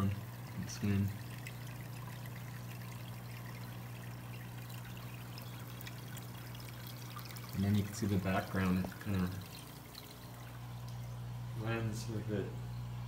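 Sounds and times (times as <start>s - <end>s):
filter water trickling and splashing: 0.0s - 11.6s.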